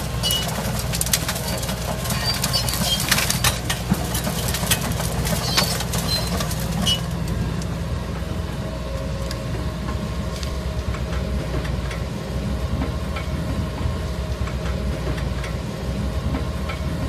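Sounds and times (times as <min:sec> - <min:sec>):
heavy machinery rumbling: 0:00.0 - 0:17.0.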